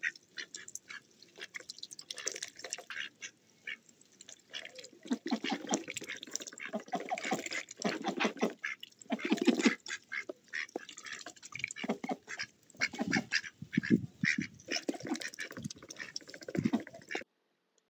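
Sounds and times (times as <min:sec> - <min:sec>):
ducks quacking: 0:00.0 - 0:03.8, 0:04.4 - 0:17.2.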